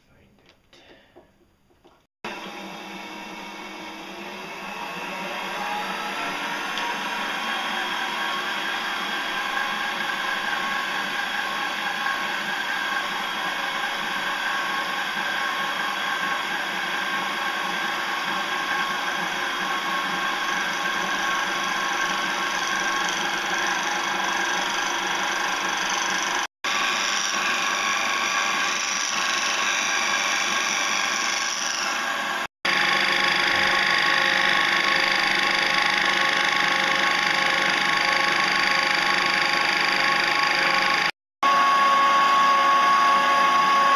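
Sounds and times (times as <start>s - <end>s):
lathe tool cutting plastic: 2.3s - 43.9s
metal lathe motor whine: 2.3s - 43.9s.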